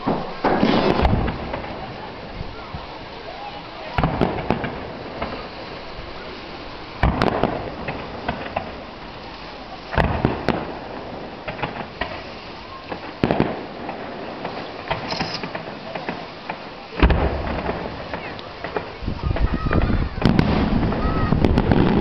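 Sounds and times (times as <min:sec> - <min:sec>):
firework shells bursting: 0:00.0 - 0:02.4, 0:03.9 - 0:22.0
crackling firework pops: 0:00.0 - 0:02.8, 0:03.9 - 0:22.0.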